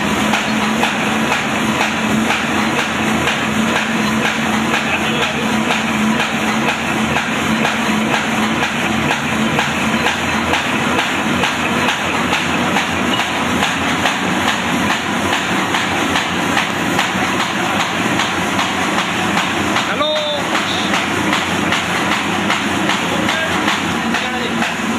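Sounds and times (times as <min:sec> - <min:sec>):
paper bag machine clattering: 0:00.0 - 0:24.9.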